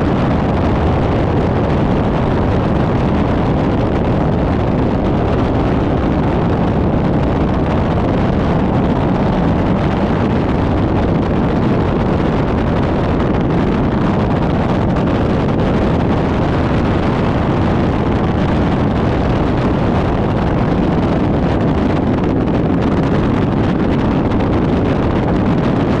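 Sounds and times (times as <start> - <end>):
outboard motor drone: 0.0 - 26.0
wind rushing over microphone: 0.0 - 26.0.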